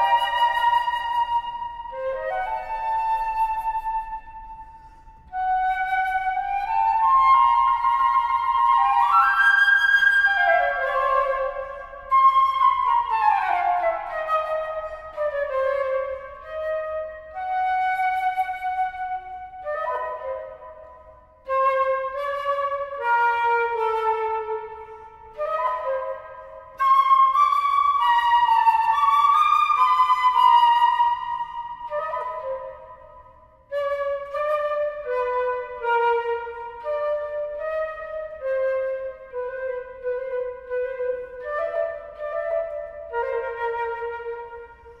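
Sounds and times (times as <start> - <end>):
flute melody: 0.0 - 45.0.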